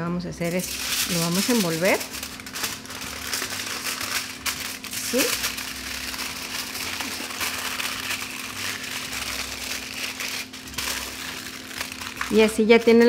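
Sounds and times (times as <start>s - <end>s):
aluminium foil crinkling: 0.4s - 13.0s.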